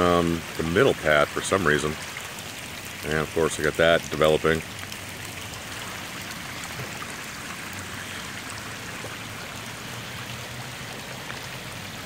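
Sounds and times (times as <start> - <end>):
heavy rain: 0.0 - 12.0
rainwater flowing over gravel: 0.0 - 12.0.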